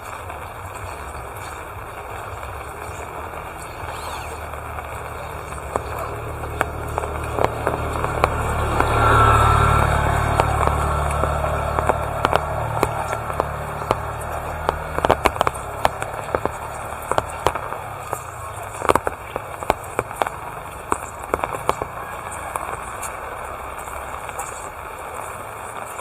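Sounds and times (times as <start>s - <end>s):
steady rain: 0.0s - 26.0s
vehicle engine passing: 0.0s - 26.0s
water drips ticking: 0.0s - 26.0s.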